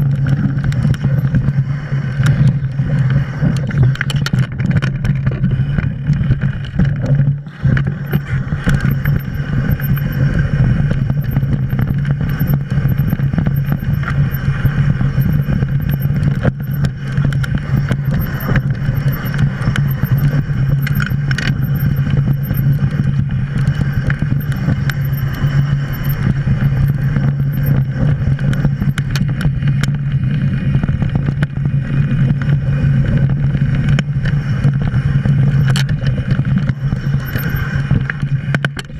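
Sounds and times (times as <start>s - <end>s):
bike rattling over rocks: 0.0s - 38.9s
wind buffeting microphone: 0.0s - 38.9s.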